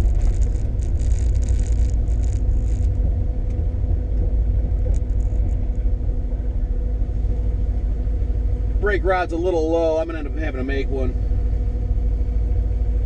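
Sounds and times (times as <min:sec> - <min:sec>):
car engine running low rumble: 0:00.0 - 0:13.0.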